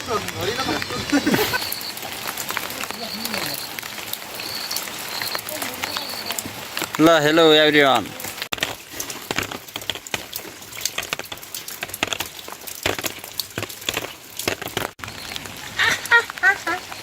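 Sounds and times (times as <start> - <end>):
rain pattering on a surface: 0.0 - 17.0.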